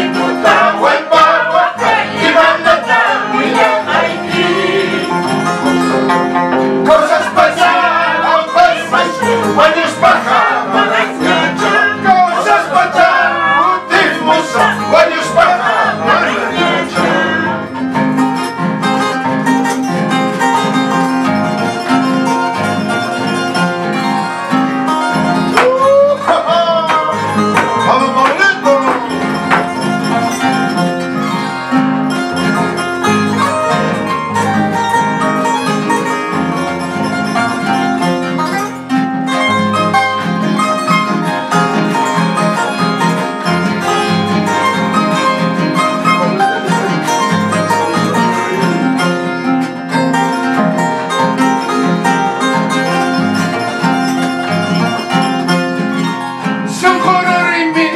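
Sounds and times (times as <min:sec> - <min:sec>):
acoustic guitar: 0:00.0 - 0:57.9
harp: 0:00.0 - 0:57.9.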